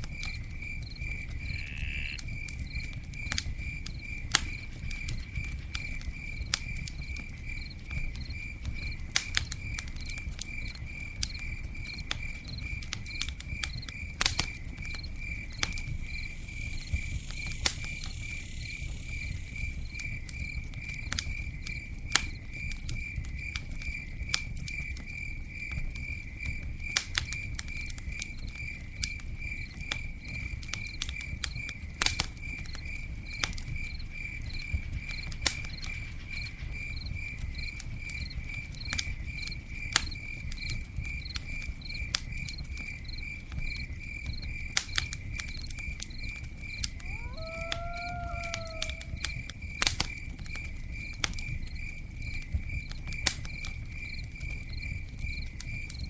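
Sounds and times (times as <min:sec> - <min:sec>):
campfire crackling and popping: 0:00.0 - 0:56.0
campfire hiss: 0:00.0 - 0:56.0
cricket chirping: 0:00.0 - 0:56.0.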